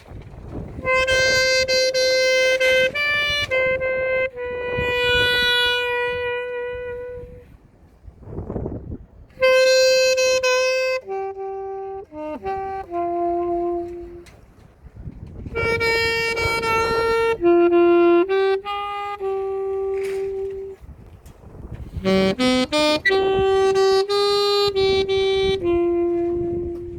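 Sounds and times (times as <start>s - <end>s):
alto saxophone slow melody: 0.0s - 8.0s, 9.2s - 26.9s.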